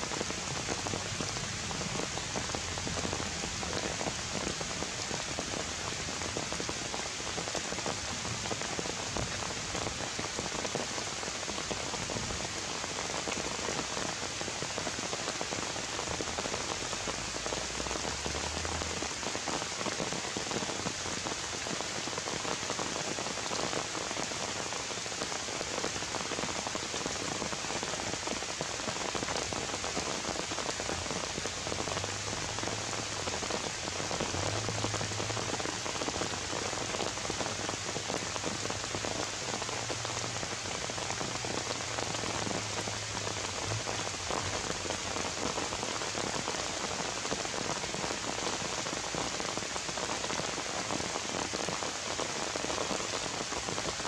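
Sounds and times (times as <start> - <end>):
rain on leaves and ground: 0.0 - 54.0.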